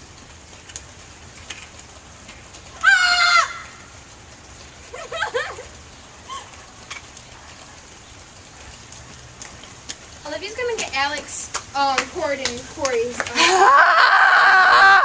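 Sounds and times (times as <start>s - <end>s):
rain pattering on hard surfaces: 0.0s - 15.0s.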